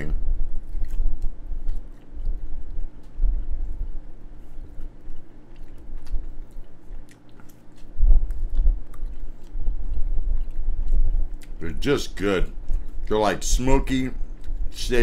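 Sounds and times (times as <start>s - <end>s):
man chewing: 0.1s - 15.0s.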